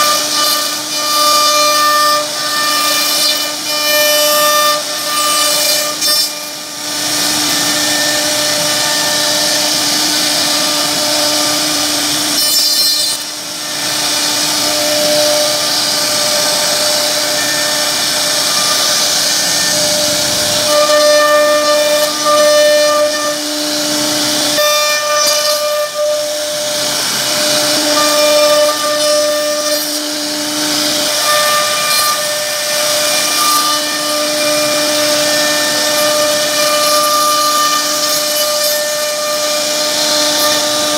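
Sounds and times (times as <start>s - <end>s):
hiss of bit cutting wood: 0.0s - 40.9s
router spindle high whine: 0.0s - 40.9s.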